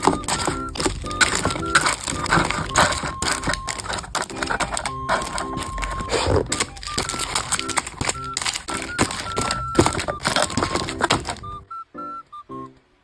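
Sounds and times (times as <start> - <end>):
packaging crinkling and rustling: 0.0 - 11.6
light background music: 0.0 - 13.0.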